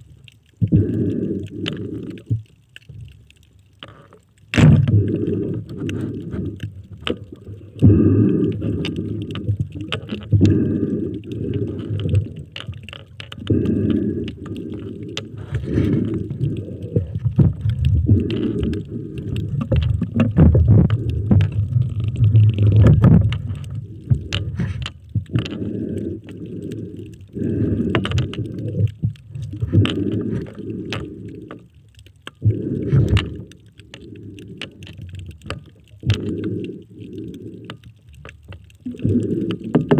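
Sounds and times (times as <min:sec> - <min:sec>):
underwater rumbling and gurgling: 0:00.0 - 0:39.9.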